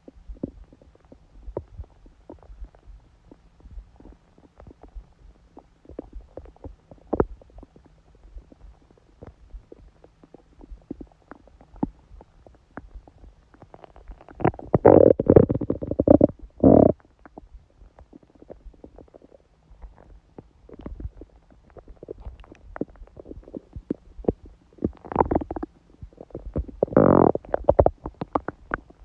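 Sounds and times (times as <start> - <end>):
stomach gurgling: 0.0 - 29.0.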